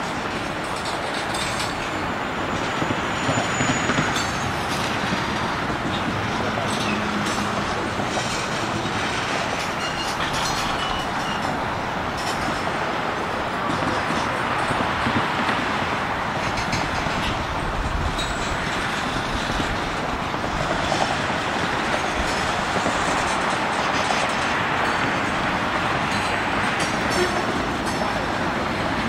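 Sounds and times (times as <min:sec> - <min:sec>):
freight train rumble and rattle: 0:00.0 - 0:29.0.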